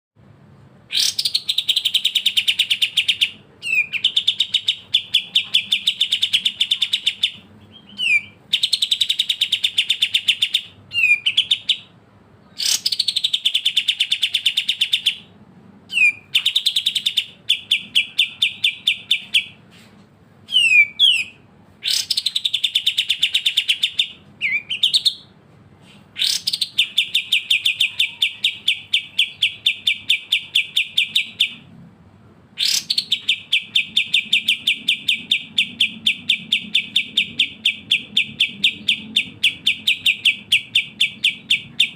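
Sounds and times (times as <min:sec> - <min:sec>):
bird singing rapid chirps: 0:00.9 - 0:19.6, 0:20.4 - 0:25.3, 0:26.1 - 0:31.7, 0:32.6 - 0:41.9.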